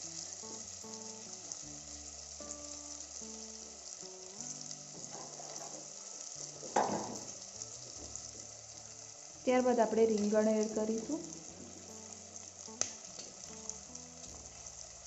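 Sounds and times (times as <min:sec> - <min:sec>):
soft background music: 0:00.0 - 0:15.0
vegetables sizzling in hot oil: 0:00.0 - 0:15.0.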